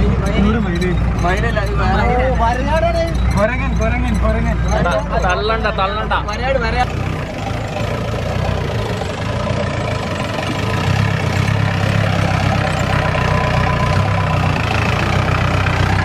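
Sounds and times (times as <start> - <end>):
jeep engine driving on dirt track: 0.0 - 16.0.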